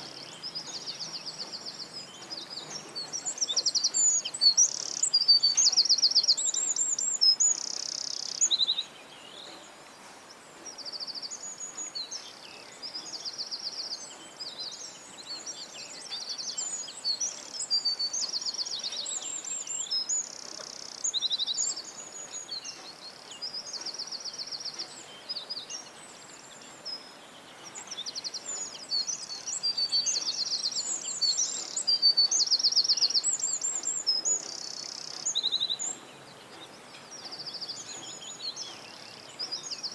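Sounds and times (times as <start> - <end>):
faint background hiss: 0.0 - 39.9
songbirds trilling and chirping: 0.0 - 39.9.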